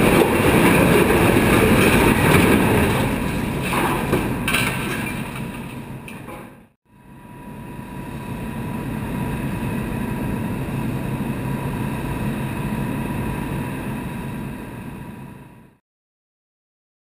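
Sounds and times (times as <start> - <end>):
outdoor rumbling noise: 0.0 - 15.8.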